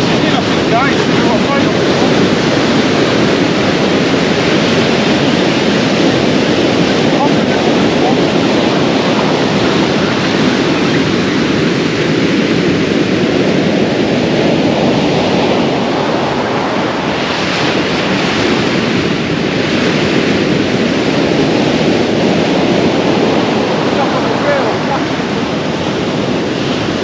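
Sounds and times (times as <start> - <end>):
surf washing up shingle beach: 0.0 - 27.0
wind buffeting microphone: 0.0 - 27.0.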